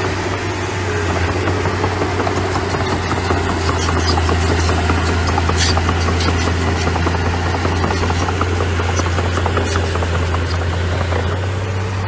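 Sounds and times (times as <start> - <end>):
diesel earthmoving machinery running: 0.0 - 12.0
hissing clank: 1.1 - 11.6
metal clanks and rattles: 1.1 - 12.0.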